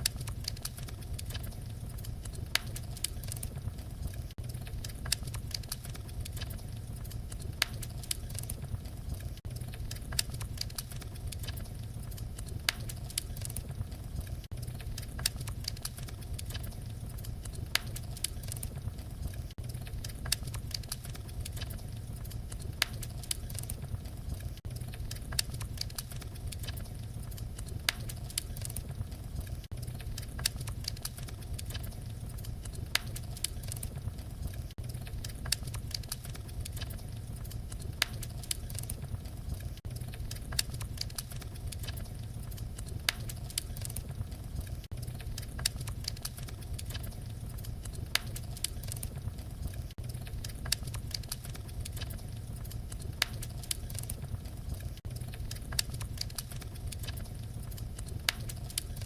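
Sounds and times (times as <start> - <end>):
low rumble of burning: 0.0 - 59.0
wood fire crackling and popping: 0.0 - 59.0.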